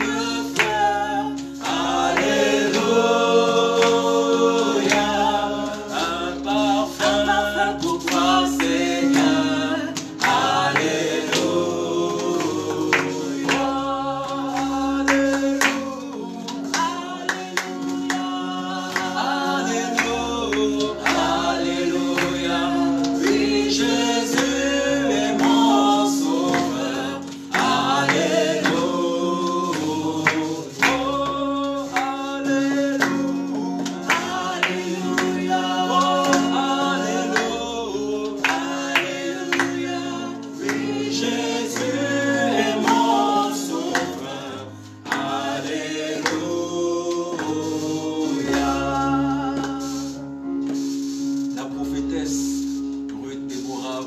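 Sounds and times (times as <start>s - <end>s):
acoustic guitar: 0.0s - 54.0s
group singing gospel song: 0.0s - 54.0s
hand clapping: 0.0s - 54.0s.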